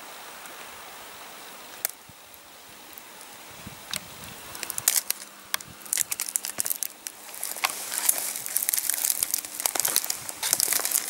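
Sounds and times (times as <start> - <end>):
dry vegetation crackling and rustling: 1.8 - 11.0.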